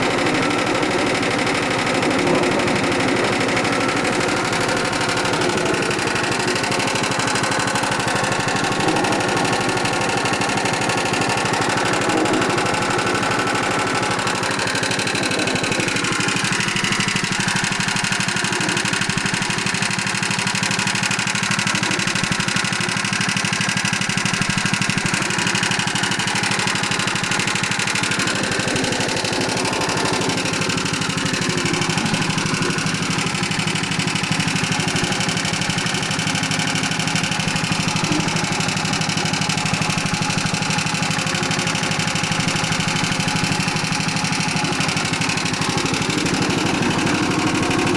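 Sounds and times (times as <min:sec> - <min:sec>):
press machine motor knocking: 0:00.0 - 0:47.9.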